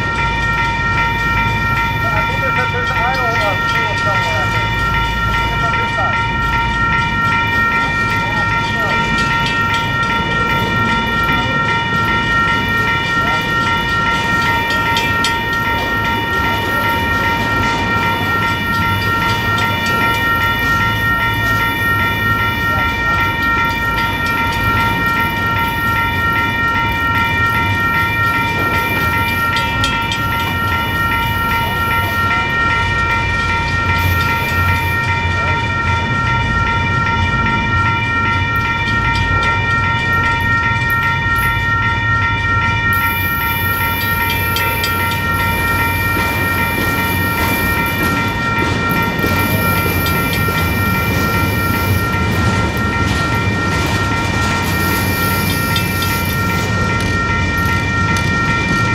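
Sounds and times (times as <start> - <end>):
crossing signal bell ringing: 0.0 - 58.9
freight train rumbling past: 0.0 - 58.9
train wheels clanking: 0.0 - 58.9.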